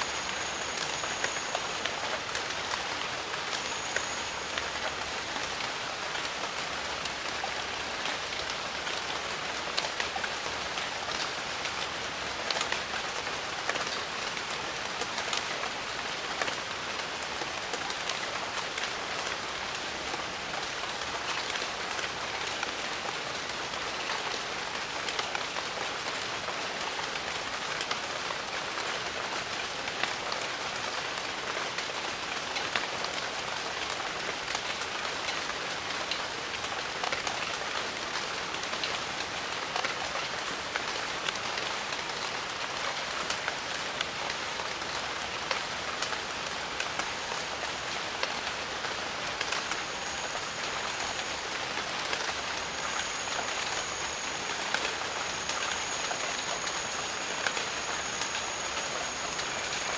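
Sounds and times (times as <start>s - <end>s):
jungle rain: 0.0s - 59.9s.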